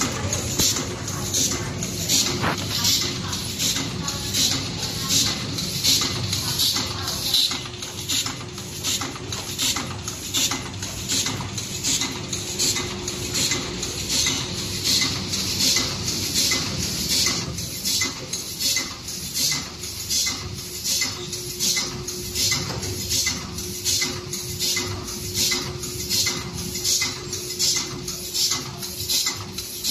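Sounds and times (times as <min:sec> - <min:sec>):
machine hissing clack: 0:00.0 - 0:29.9.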